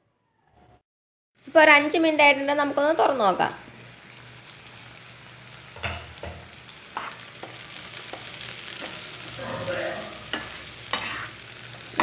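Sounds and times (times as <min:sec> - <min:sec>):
vegetables sizzling in oil: 0:01.4 - 0:12.0.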